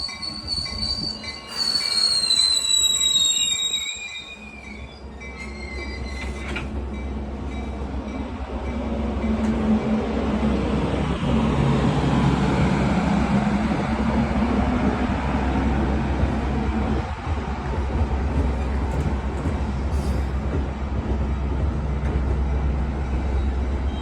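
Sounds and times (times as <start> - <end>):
diesel train rumbling: 0.0 - 24.0.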